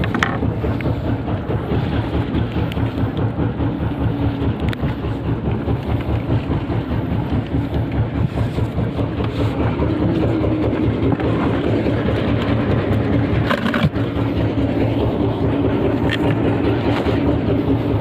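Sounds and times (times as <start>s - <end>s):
boat engine pulsing: 0.0s - 18.0s.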